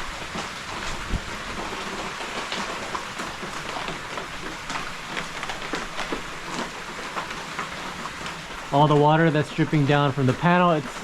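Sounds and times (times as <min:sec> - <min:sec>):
rain dripping on plastic roof: 0:00.0 - 0:11.0.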